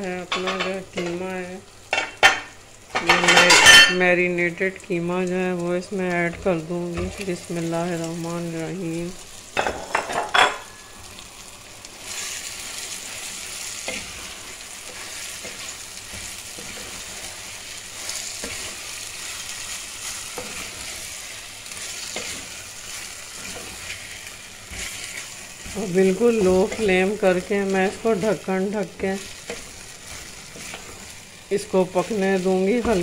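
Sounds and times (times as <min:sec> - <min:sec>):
meat sizzling in hot oil: 0:00.0 - 0:33.0.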